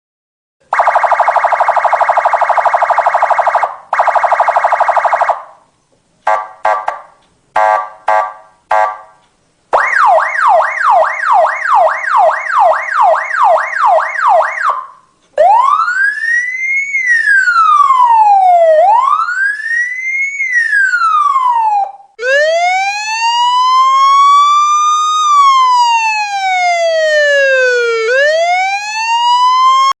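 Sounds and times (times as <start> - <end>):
police siren wailing and yelping: 0.7 - 5.5, 9.8 - 30.0.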